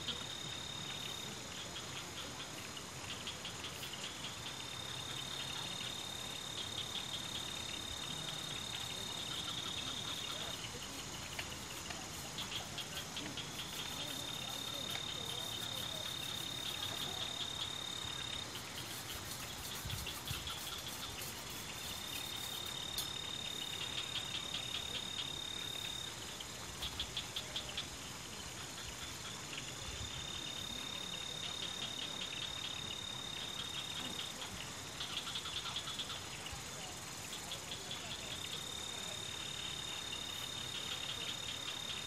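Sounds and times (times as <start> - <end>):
insect high-pitched trill: 0.0 - 42.0
insect pulsed chirps: 0.0 - 42.0
steady background hiss: 0.0 - 42.0.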